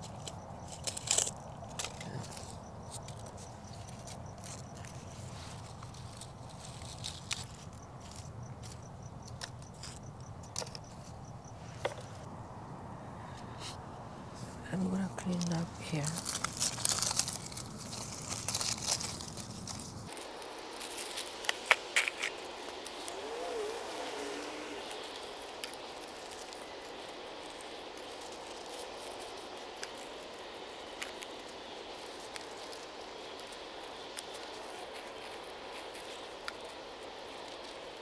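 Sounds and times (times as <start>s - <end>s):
dry leaves crackling: 0.0s - 10.0s, 14.3s - 38.0s
faint steady hiss: 0.0s - 38.0s.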